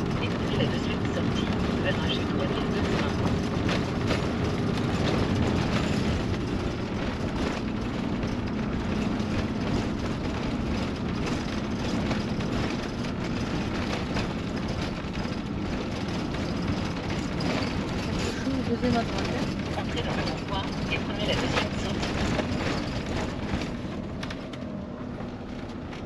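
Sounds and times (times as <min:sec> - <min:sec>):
light rattles: 0:00.0 - 0:24.6
engine and road noise rumble: 0:00.0 - 0:26.0.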